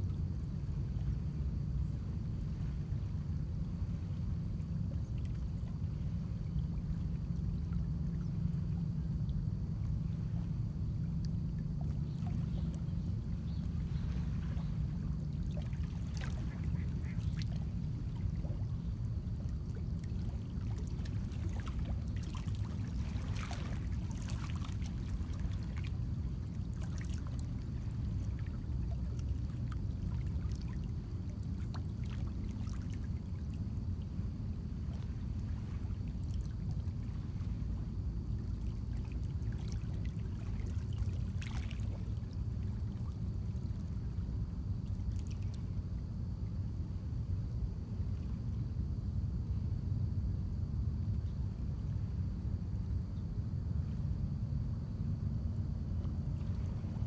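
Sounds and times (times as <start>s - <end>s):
low wind rumble: 0.0s - 57.0s.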